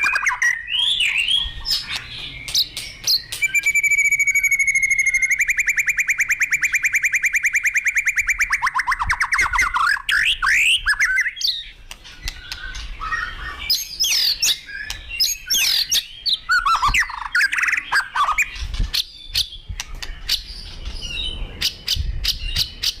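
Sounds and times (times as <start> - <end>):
songbird singing whistled phrases: 0.0 - 23.0.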